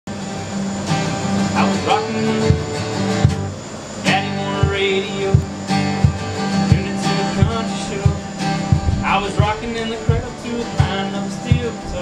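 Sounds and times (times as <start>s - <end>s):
acoustic guitars strumming chords: 0.1s - 12.0s.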